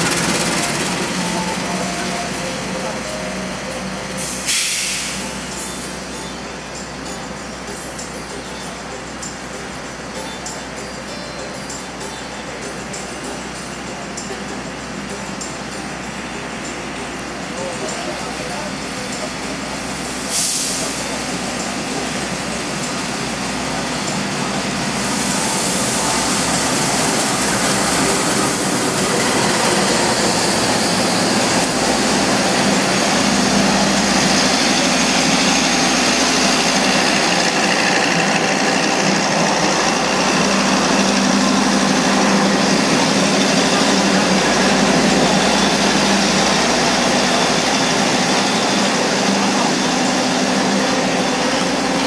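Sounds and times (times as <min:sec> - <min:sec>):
train diesel engine humming: 0:00.0 - 0:52.0.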